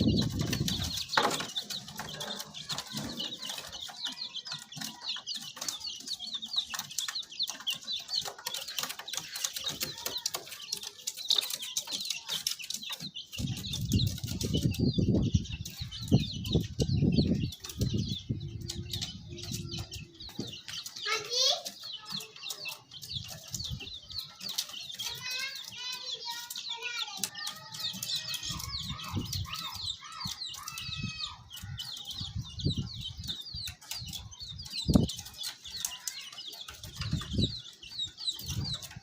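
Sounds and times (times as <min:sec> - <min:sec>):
baby chicks peeping: 0:00.0 - 0:39.0.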